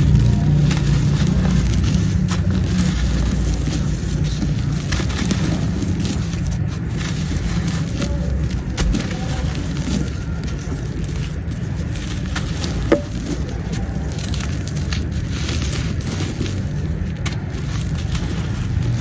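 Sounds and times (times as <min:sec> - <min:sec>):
brittle material crackling: 0:00.0 - 0:19.0.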